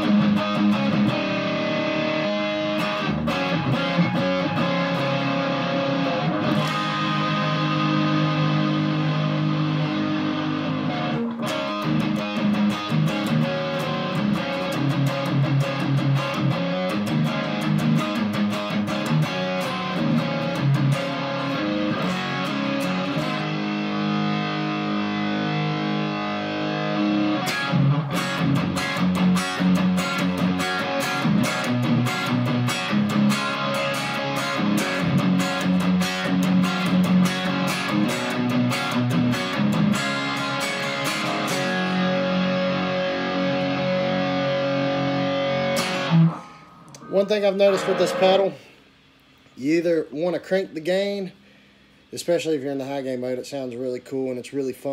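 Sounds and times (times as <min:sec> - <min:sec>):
distorted electric guitar: 0:00.0 - 0:49.5.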